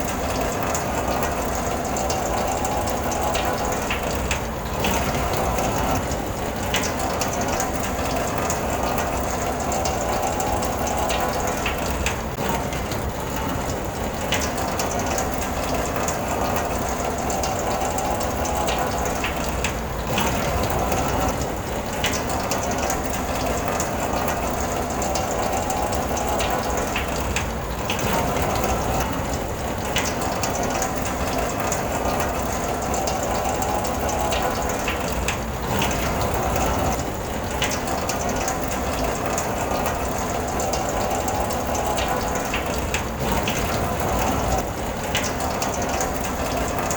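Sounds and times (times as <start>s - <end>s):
rain pattering on a car: 0.0s - 46.9s.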